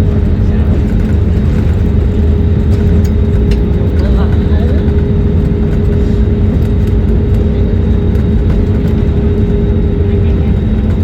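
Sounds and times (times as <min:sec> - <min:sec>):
airliner cabin engine drone: 0:00.0 - 0:11.0.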